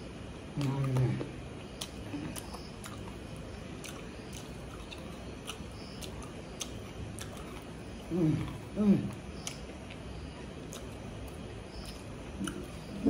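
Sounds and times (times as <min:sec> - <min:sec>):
low steady background noise: 0:00.0 - 0:13.0
wet mouth clicks chewing: 0:00.6 - 0:13.0.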